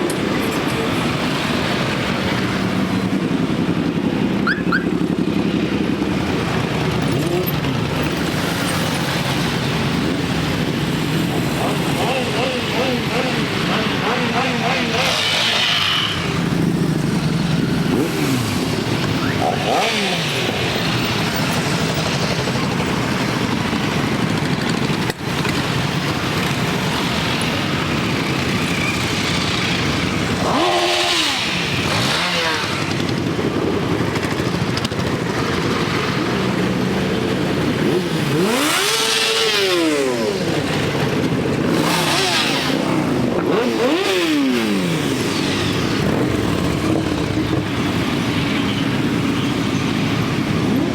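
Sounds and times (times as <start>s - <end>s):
motorcycles riding past: 0.0s - 50.9s.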